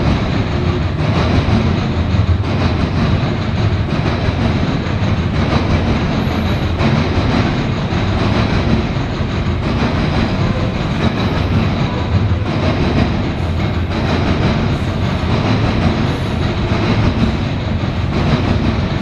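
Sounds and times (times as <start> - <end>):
train wheels rumbling on rail: 0.0 - 19.0
wheels clattering over rail joints: 0.0 - 19.0.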